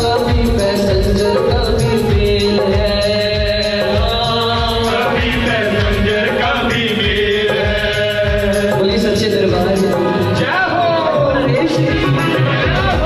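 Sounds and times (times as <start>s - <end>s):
man singing into microphone: 0.0s - 13.0s
steady percussion beat: 0.0s - 13.0s.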